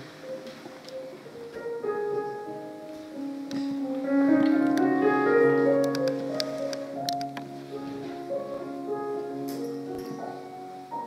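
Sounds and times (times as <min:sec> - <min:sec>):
slow jazz piano: 0:00.0 - 0:11.0.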